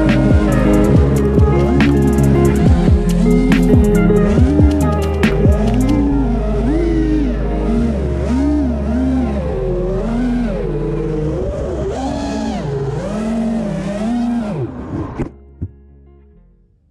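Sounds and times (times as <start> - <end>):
quadcopter motors whining: 0.0 - 15.3.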